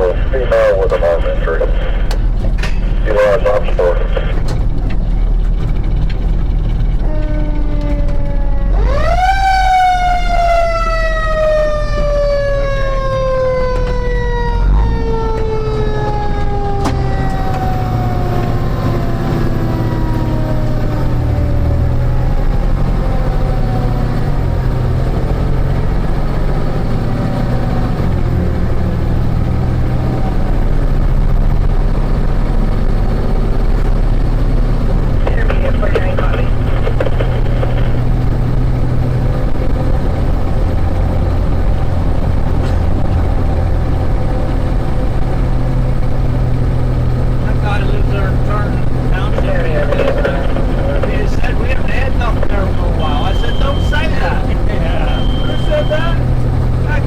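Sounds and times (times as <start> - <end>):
fire engine siren: 0.0 - 4.8, 5.8 - 57.0
truck engine rumbling: 0.0 - 57.0.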